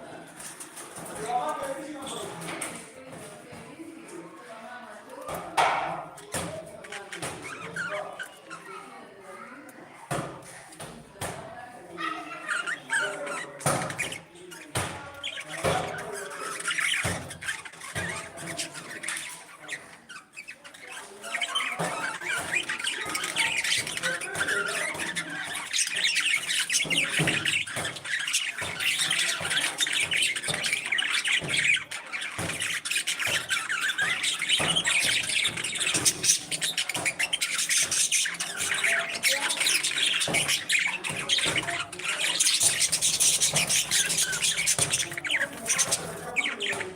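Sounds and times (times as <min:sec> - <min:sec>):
parrots squawking: 0:05.9 - 0:09.2, 0:11.8 - 0:46.9.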